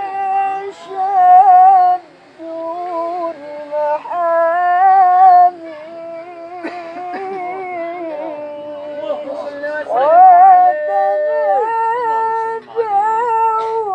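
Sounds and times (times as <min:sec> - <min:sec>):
man singing with vibrato: 0:00.0 - 0:13.9.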